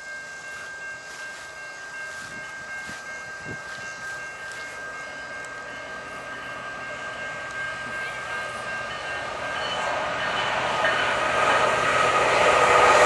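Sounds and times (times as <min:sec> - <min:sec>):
distant freight train: 0:00.0 - 0:13.0.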